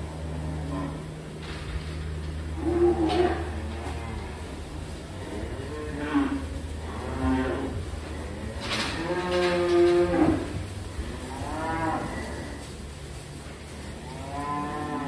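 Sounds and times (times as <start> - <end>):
cattle mooing: 0.0 - 12.9, 13.8 - 15.0.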